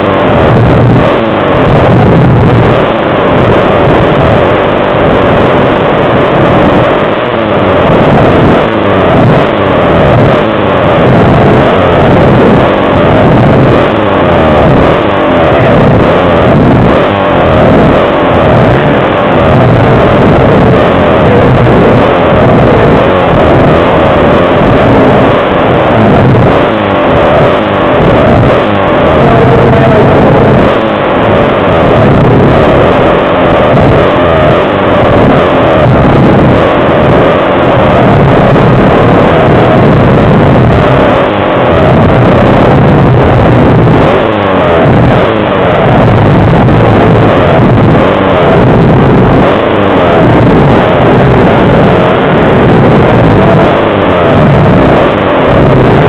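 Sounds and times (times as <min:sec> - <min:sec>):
pit bike engines revving: 0:00.0 - 0:56.0.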